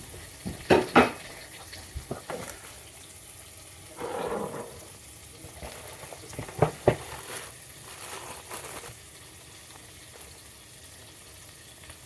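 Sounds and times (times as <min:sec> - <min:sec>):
burger patty sizzling: 0:00.0 - 0:12.0.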